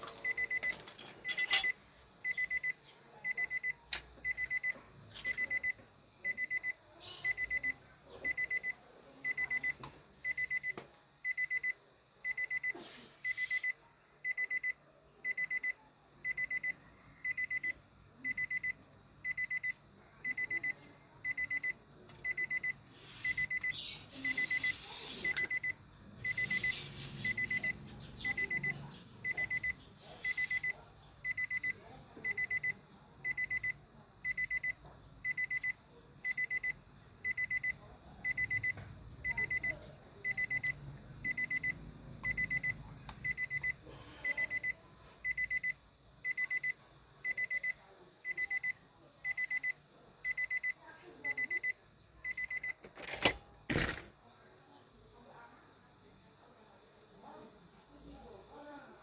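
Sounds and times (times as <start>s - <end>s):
electronic warning beeps: 0.0s - 54.0s.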